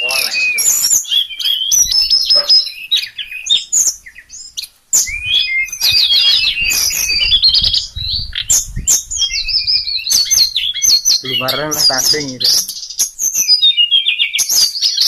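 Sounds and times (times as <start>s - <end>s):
songbird whistles and chirps: 0.0s - 15.0s.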